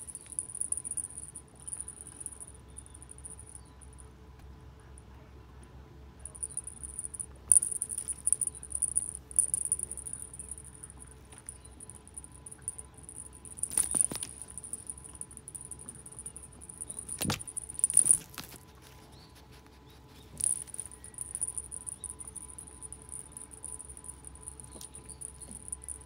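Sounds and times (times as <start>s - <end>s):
insect trill: 0.0s - 3.6s, 6.4s - 18.6s, 20.4s - 26.0s.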